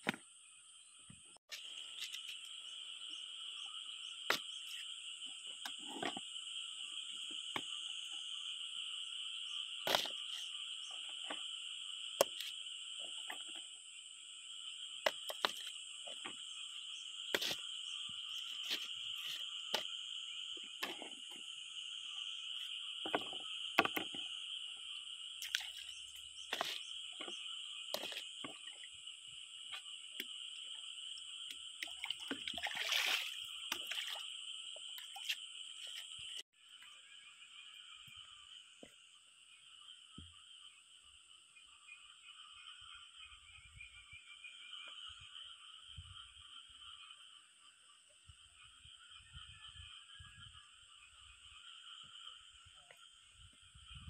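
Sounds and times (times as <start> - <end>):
insects chirring: 0.0 - 54.0
frogs calling: 1.5 - 54.0.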